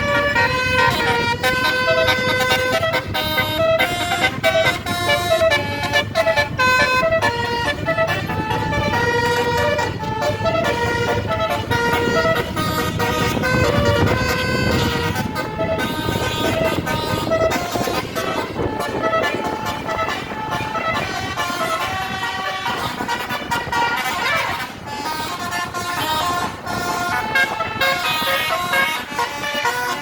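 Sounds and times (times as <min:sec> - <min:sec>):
bus engine and road noise: 0:00.0 - 0:30.0
musical bus horn melody: 0:00.0 - 0:30.0.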